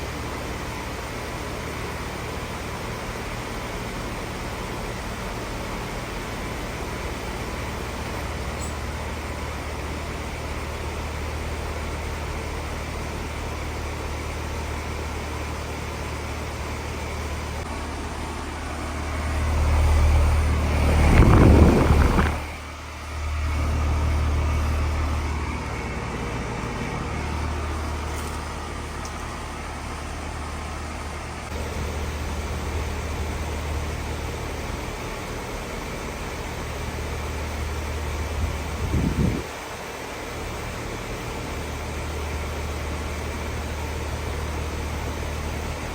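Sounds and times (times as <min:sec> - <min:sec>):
heat pump humming: 0:00.0 - 0:45.9.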